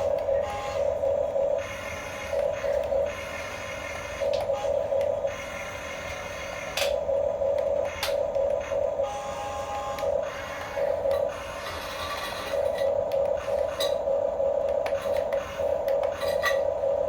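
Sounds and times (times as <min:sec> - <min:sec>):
toy motors whining: 0:00.0 - 0:07.0, 0:07.8 - 0:14.0, 0:14.8 - 0:16.8.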